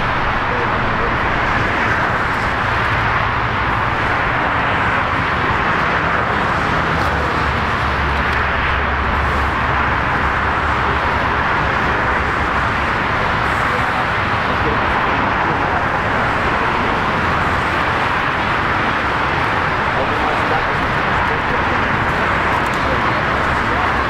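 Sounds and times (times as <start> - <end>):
jet engines taxiing: 0.0 - 24.0.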